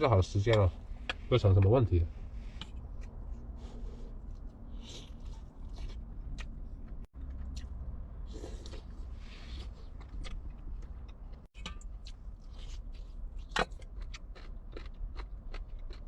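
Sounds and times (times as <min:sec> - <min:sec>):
person chewing: 0:02.5 - 0:16.0.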